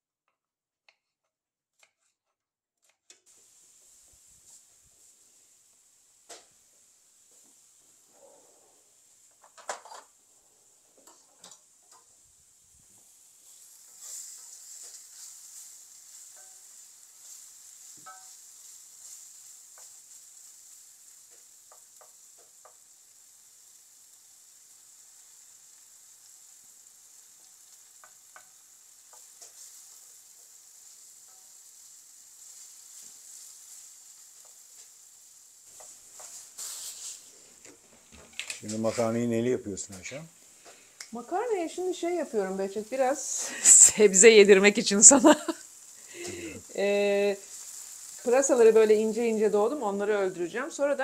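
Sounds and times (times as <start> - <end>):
fire crackles and pops: 2.8 - 51.0
fire hissing: 3.2 - 51.0.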